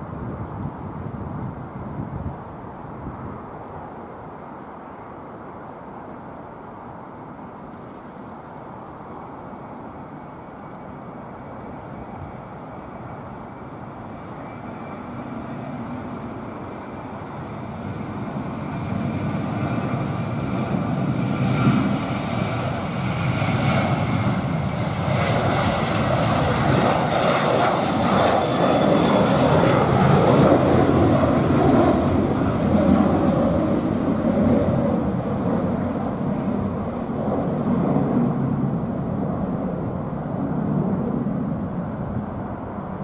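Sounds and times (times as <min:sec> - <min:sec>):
jet engines roaring: 0:02.6 - 0:43.0
high jet whine: 0:06.9 - 0:43.0.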